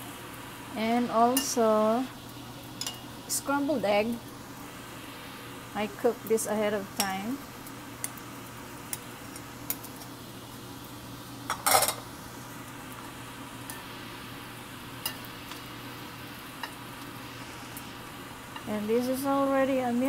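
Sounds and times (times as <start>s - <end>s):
blower fan humming: 0.0s - 20.0s
faint sizzling: 0.0s - 20.0s.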